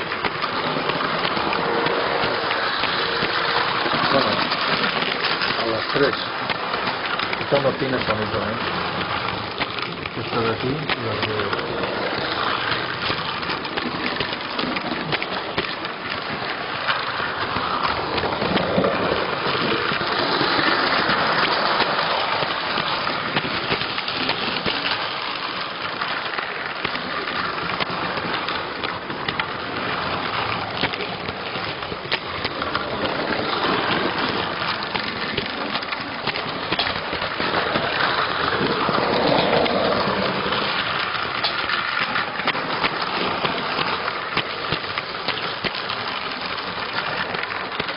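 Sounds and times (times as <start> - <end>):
model train wheels rattling on rails: 0.0 - 47.9.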